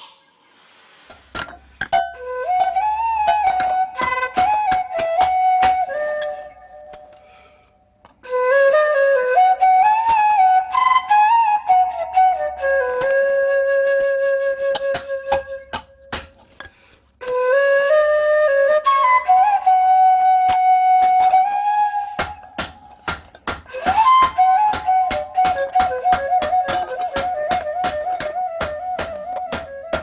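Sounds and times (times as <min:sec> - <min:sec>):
flute melody: 0:02.0 - 0:07.6, 0:08.2 - 0:16.3, 0:17.2 - 0:30.0.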